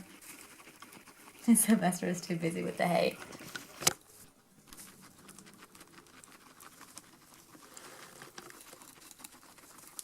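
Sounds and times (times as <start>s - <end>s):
guinea pig rustling in hay: 0.0s - 10.0s.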